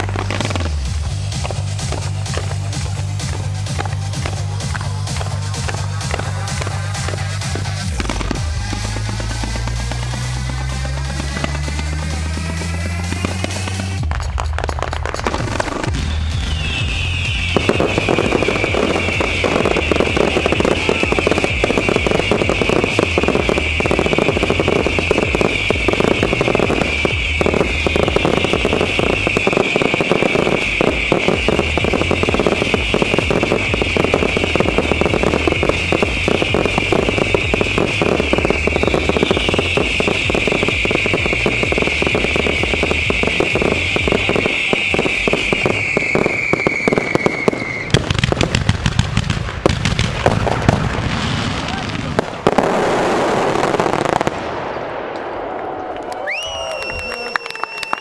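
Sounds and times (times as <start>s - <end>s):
fireworks whistling: 0.0s - 55.4s, 56.2s - 58.0s
fireworks crackling: 0.0s - 58.0s.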